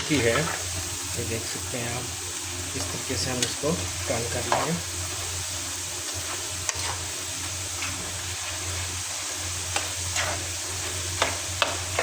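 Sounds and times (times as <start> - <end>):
fries sizzling in hot oil: 0.0 - 12.0.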